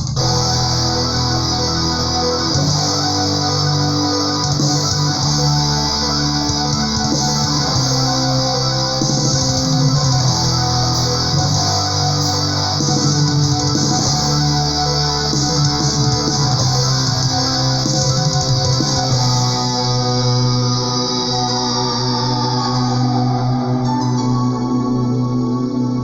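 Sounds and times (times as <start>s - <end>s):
bass guitar: 0.0s - 26.0s
electric guitars playing chords: 0.0s - 26.0s.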